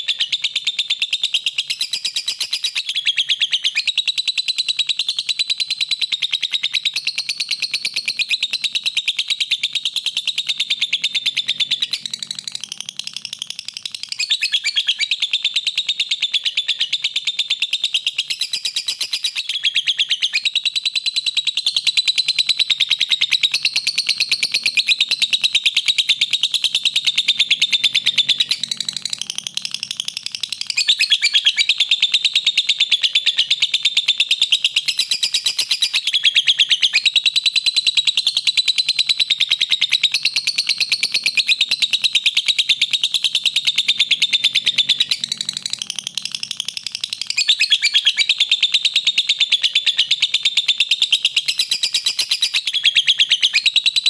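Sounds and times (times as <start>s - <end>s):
lovebird chattering: 0.0s - 54.0s.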